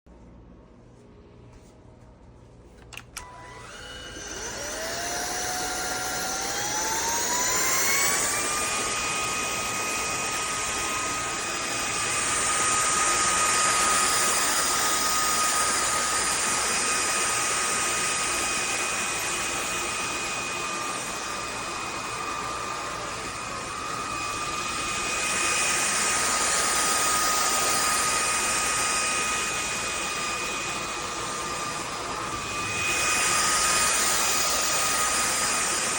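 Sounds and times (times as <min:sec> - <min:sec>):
stick vacuum motor whine: 0:02.8 - 0:35.9.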